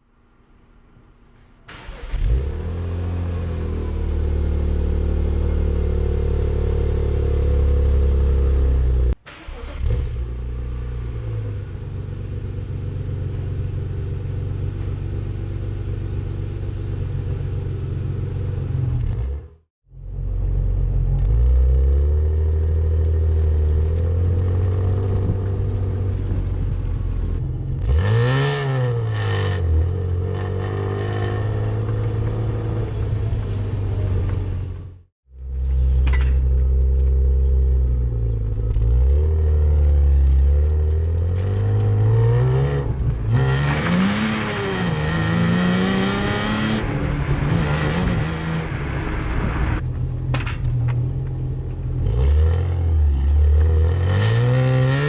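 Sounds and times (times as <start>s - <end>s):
car engine and exhaust revving: 1.7s - 55.0s.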